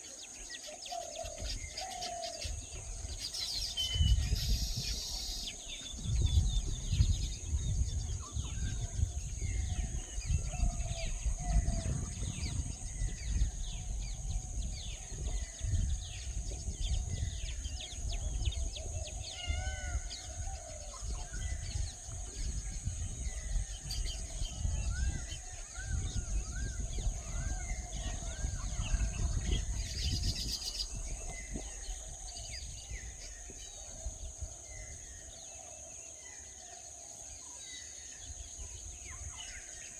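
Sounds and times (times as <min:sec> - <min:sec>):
small birds chirping: 0:00.0 - 0:35.6.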